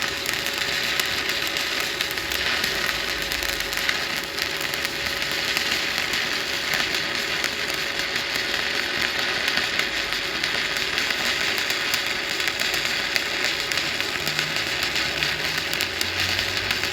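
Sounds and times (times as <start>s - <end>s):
welding arc crackling: 0.0s - 16.9s.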